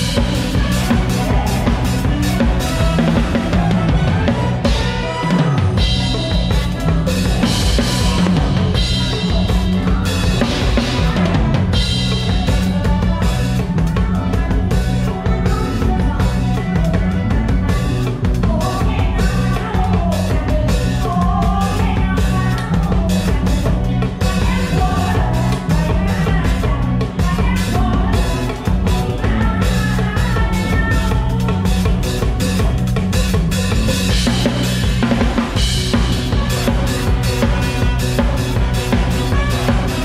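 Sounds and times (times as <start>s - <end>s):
drum kit playing a beat: 0.0s - 40.0s
electric bass guitar: 0.0s - 40.0s.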